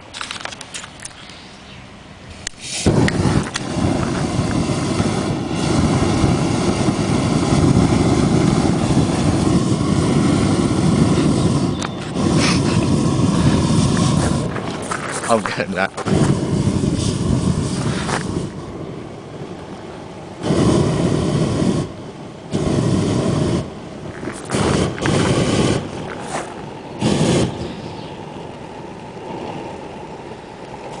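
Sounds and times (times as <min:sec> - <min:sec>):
jet engine rushing: 0:00.0 - 0:31.0.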